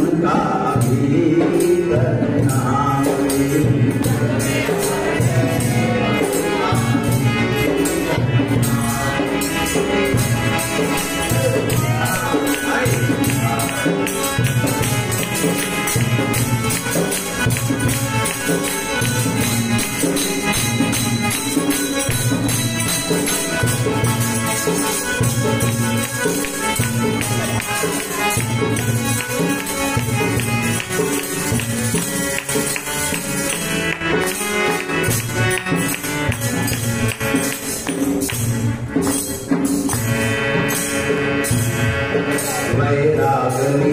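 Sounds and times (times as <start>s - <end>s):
harmonium melody: 0.0s - 43.9s
jingling percussion: 0.0s - 43.9s.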